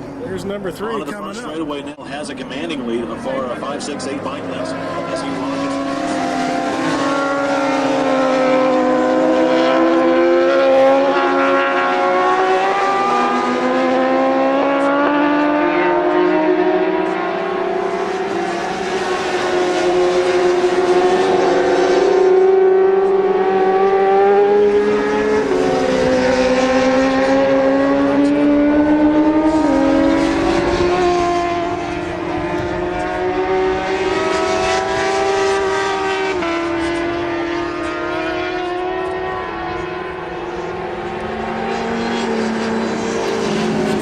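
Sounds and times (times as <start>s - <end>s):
racing motorcycle engines revving: 0.0s - 44.0s.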